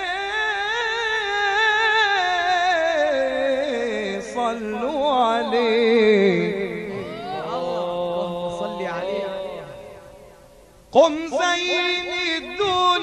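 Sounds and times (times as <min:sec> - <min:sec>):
man singing into a microphone: 0:00.0 - 0:10.3, 0:10.9 - 0:13.0.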